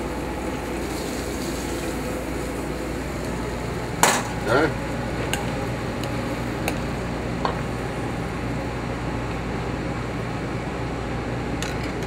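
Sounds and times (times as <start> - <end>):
gas burners: 0.0 - 12.0
ventilation fan hum: 0.0 - 12.0.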